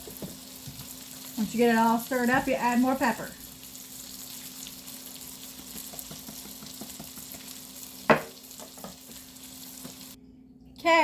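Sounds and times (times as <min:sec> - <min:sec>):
cutlets sizzling in oil: 0:00.0 - 0:10.2.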